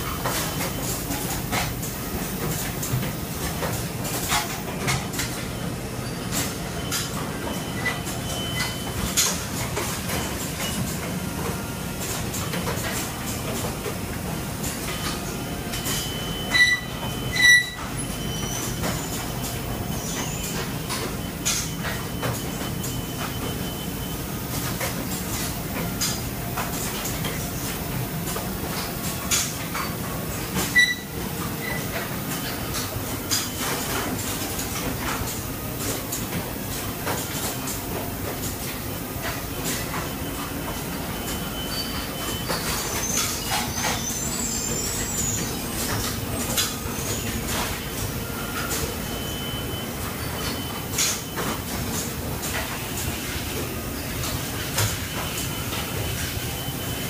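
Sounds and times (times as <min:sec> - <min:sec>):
printing machine hum: 0:00.0 - 0:57.0.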